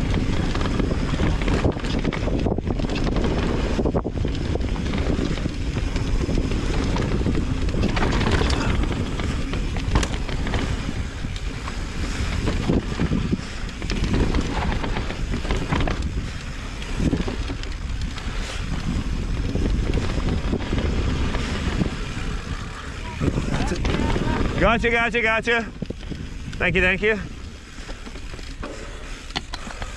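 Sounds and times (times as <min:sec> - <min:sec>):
bike rolling on dirt trail: 0:00.0 - 0:29.9
wind on microphone: 0:00.0 - 0:29.9.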